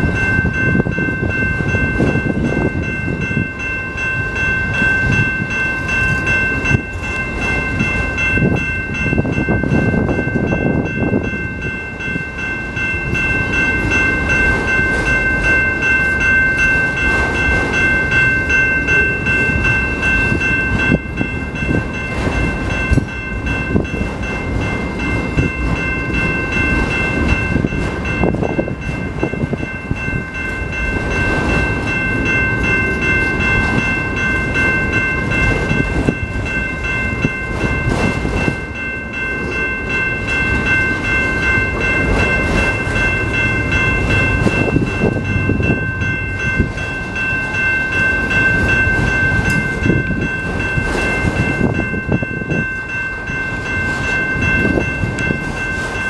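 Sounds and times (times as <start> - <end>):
freight cars rumbling and clattering: 0.0 - 56.0
level-crossing bell ringing: 0.0 - 56.0.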